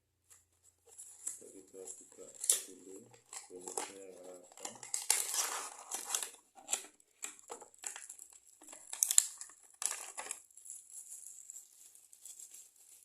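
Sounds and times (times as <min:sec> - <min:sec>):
packaging crinkling and rustling: 0:00.6 - 0:13.0.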